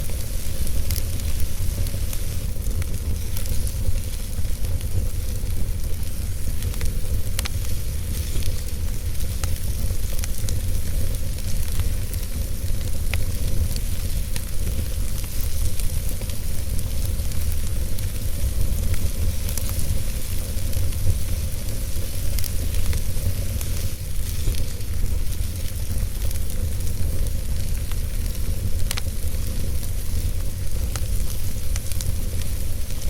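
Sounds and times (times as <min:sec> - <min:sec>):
fire burning in fireplace: 0:00.0 - 0:33.0
fire crackles and pops: 0:00.0 - 0:33.0.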